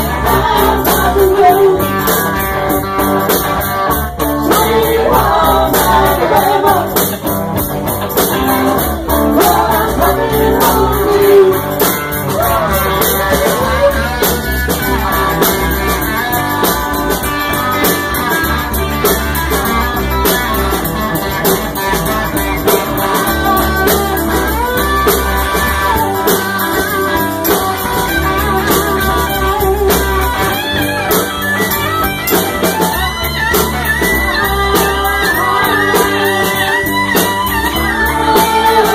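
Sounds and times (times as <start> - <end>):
voices singing: 0.0 - 18.8, 22.0 - 31.5, 32.8 - 38.9
drums: 0.0 - 38.9
electric guitars: 0.0 - 38.9.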